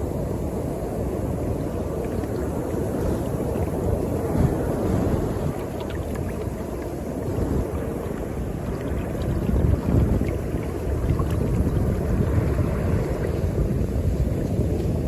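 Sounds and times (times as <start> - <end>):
surf washing in: 0.0 - 15.0
wind buffeting microphone: 0.0 - 15.0.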